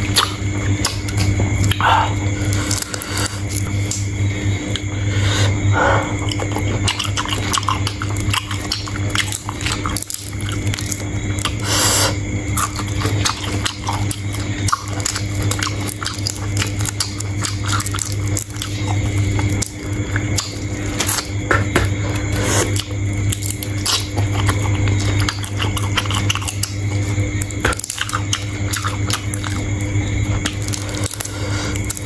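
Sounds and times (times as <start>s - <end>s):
chewing and biting shrimp: 0.0s - 4.9s, 6.1s - 32.0s
low hum: 0.0s - 32.0s.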